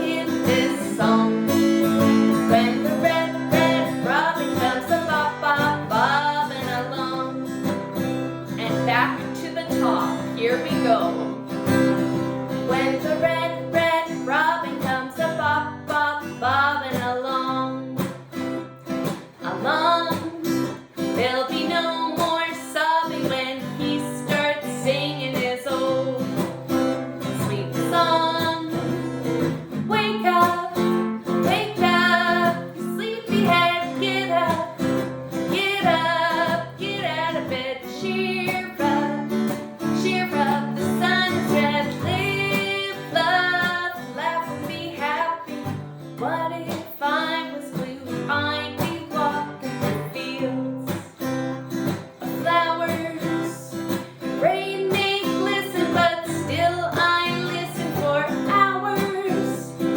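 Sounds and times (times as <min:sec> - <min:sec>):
woman singing: 0:00.0 - 0:18.4, 0:19.3 - 0:59.9
strummed acoustic guitar: 0:00.0 - 0:59.9.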